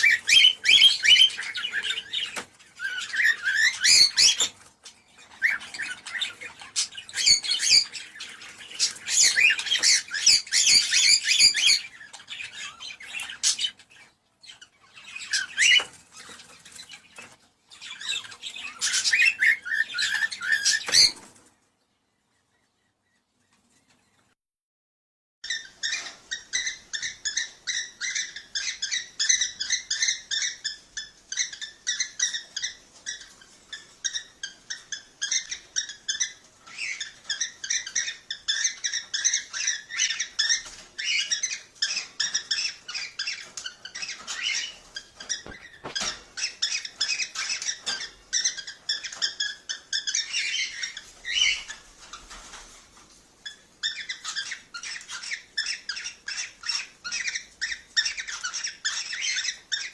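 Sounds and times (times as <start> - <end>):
cockatiels chirping: 0.0 - 21.5, 25.4 - 59.9.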